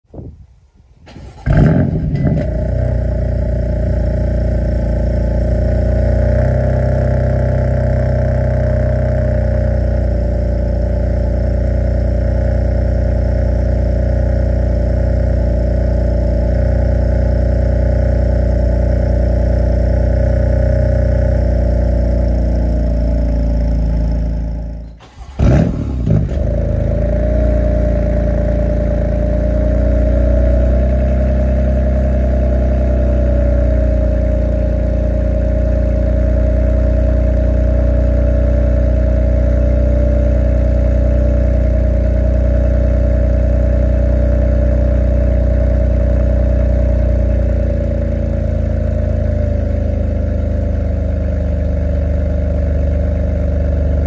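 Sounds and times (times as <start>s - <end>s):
car engine starting: 1.0s - 54.0s
car engine idling: 1.1s - 54.0s.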